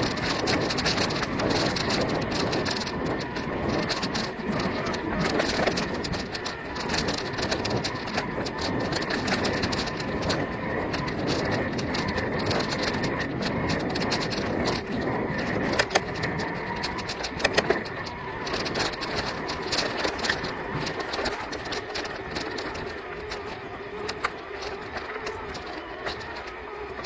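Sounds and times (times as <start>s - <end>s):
bike rattling and clicking: 0.0s - 27.0s
bike tyres on dirt trail: 0.0s - 27.0s.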